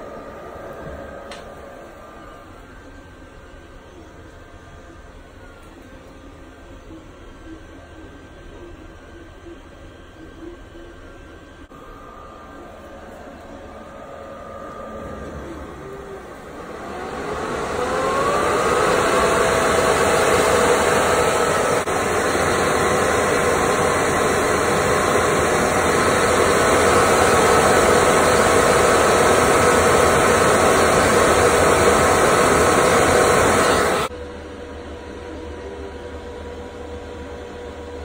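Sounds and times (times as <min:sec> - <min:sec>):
cooling fans whining: 0:00.0 - 0:38.0.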